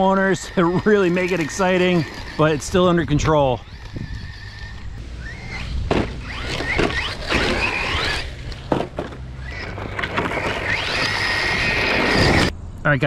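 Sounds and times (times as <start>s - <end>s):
rc car electric motor whining: 0.0s - 12.5s.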